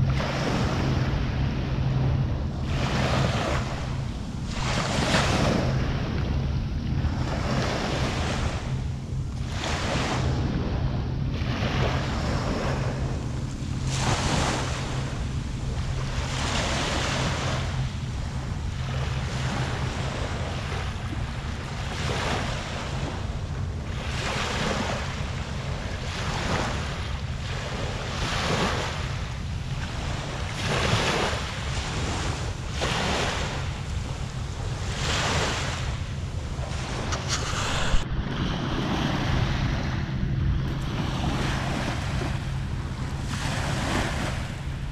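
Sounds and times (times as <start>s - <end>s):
small waves breaking: 0.0s - 44.9s
wind rumbling on microphone: 0.0s - 44.9s.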